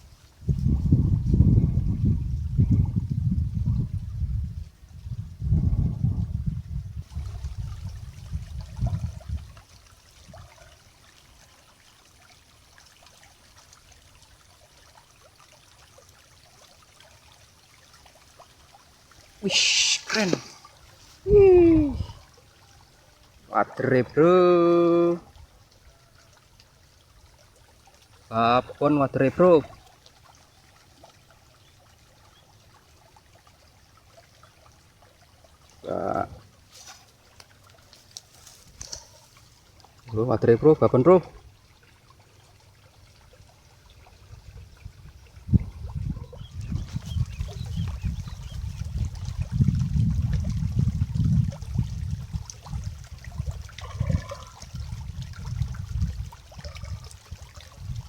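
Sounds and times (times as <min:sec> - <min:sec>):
faint river water trickling: 0:00.0 - 0:58.0.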